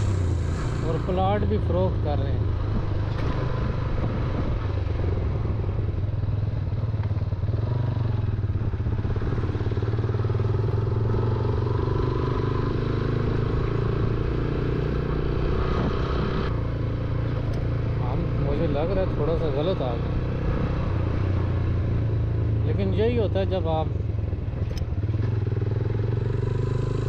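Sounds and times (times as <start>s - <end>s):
motorcycle engine running: 0.0s - 27.0s
tyre and road noise: 0.0s - 27.0s.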